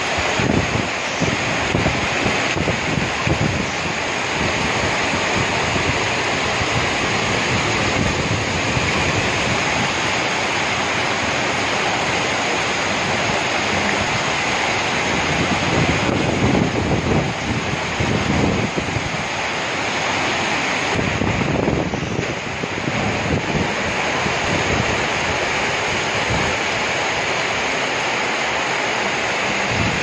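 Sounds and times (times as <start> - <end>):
floodwater rushing down a street: 0.0 - 30.0.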